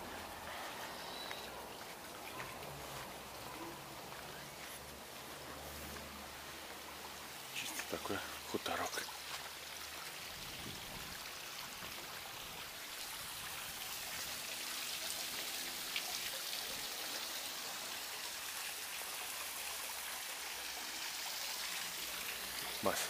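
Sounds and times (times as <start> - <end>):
water falling into pond: 0.0 - 23.0.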